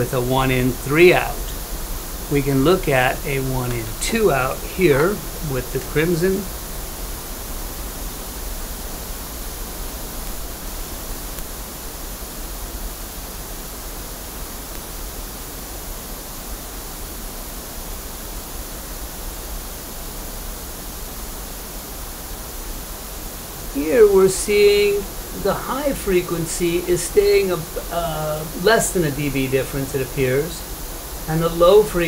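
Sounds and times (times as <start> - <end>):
pink noise from loudspeaker: 0.0 - 32.0.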